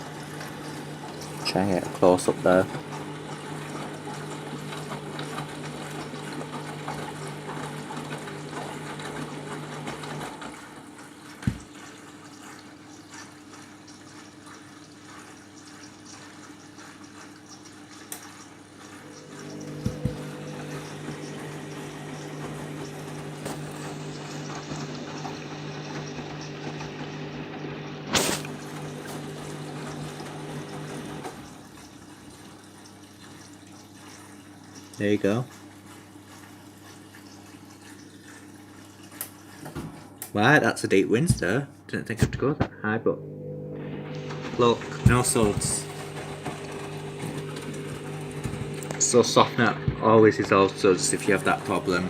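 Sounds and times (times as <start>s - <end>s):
water running into washing machine: 0.0s - 42.4s, 43.1s - 52.0s.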